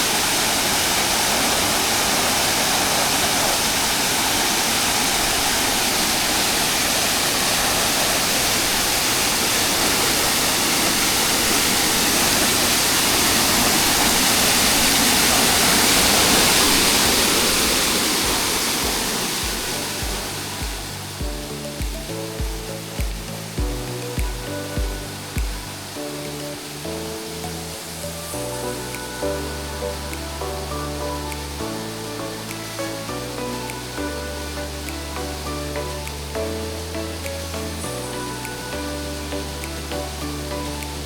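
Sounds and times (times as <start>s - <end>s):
waterfall splashing: 0.0s - 41.0s.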